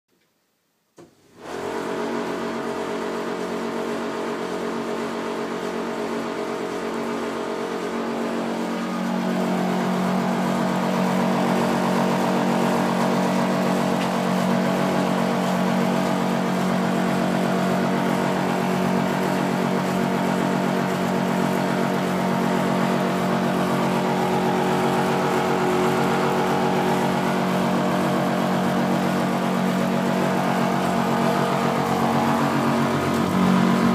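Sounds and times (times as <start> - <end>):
tumble dryer mechanical drone: 1.4 - 33.9.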